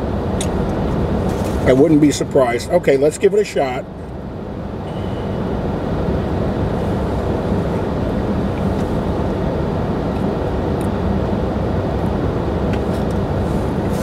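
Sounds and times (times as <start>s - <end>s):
car engine drone inside cabin: 0.0s - 14.0s.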